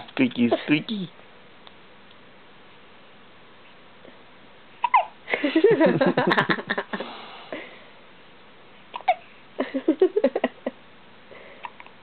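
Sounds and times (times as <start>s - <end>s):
low hiss: 0.0s - 12.0s.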